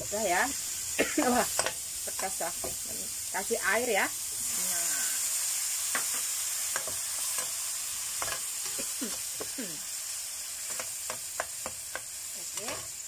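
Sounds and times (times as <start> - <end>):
water sizzling in a hot wok: 0.0 - 13.0.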